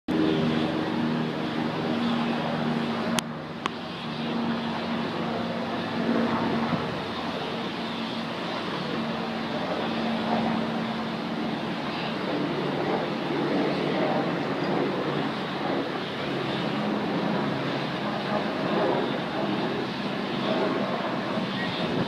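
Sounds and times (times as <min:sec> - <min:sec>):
low steady drone: 0:00.1 - 0:22.0.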